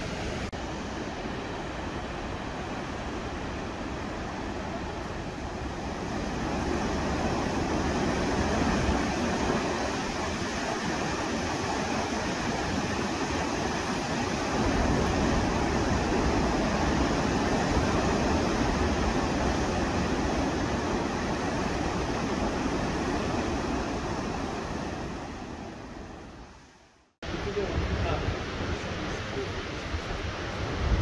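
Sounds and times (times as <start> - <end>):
waterfall roaring: 0.0 - 26.6.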